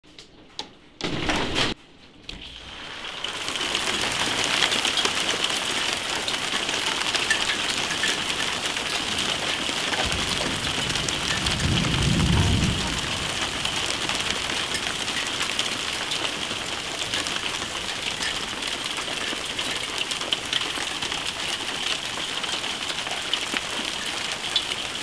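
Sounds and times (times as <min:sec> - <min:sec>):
hail on wooden deck: 0:02.7 - 0:25.0.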